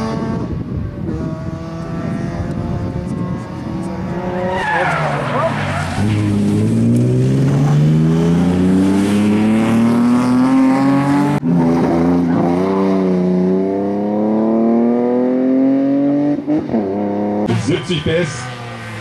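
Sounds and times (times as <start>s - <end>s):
car engine revving hard: 1.1s - 19.0s.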